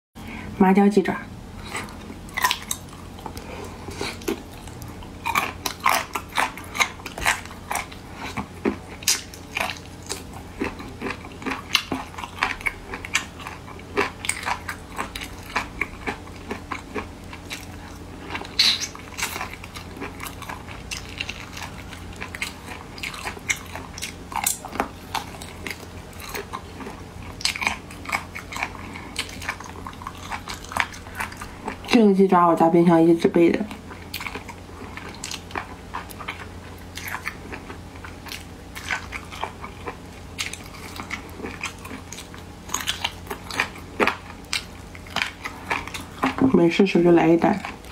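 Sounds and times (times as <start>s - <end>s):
person chewing crunchy food: 1.4s - 32.0s, 33.7s - 46.6s, 47.4s - 47.9s.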